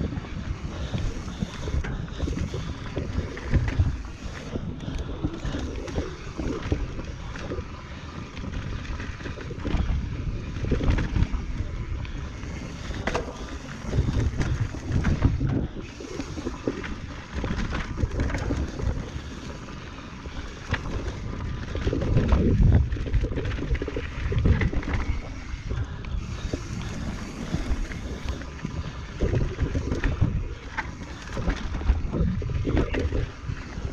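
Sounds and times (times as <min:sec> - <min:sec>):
bike knocking and rattling: 0:00.0 - 0:33.9
wind buffeting microphone: 0:00.0 - 0:33.9.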